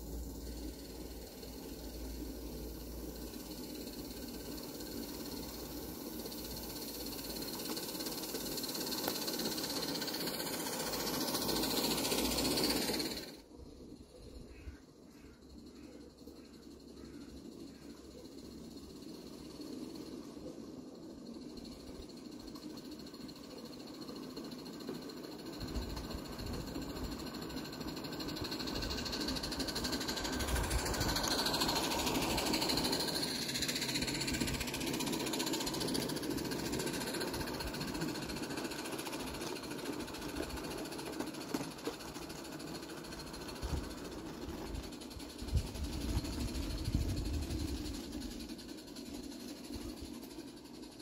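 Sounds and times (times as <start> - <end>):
steam locomotive chuffing: 0.0 - 51.0.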